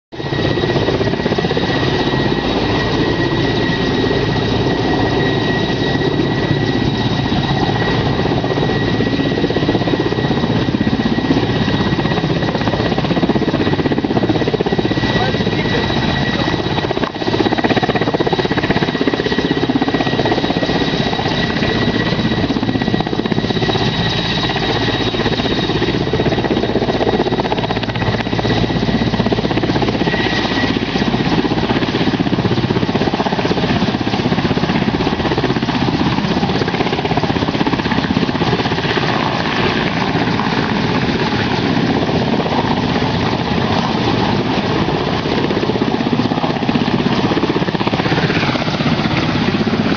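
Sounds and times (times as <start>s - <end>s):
helicopter rotor and engine: 0.1s - 49.9s.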